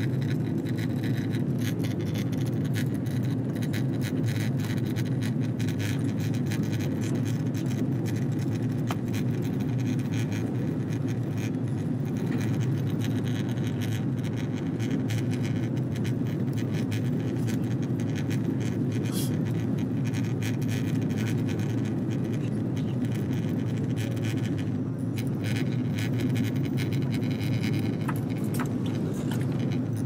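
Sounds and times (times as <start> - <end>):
airliner cabin engine rumble: 0.0 - 30.0
faint ticks and rattles: 0.0 - 30.0.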